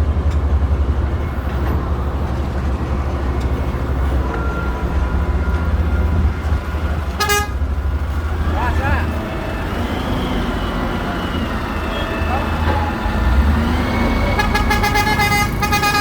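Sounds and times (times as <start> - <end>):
large engine rumbling: 0.0 - 16.0.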